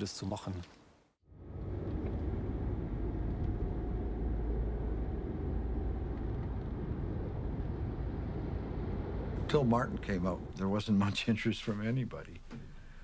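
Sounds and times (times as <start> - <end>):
car driving rumble: 1.3 - 13.0.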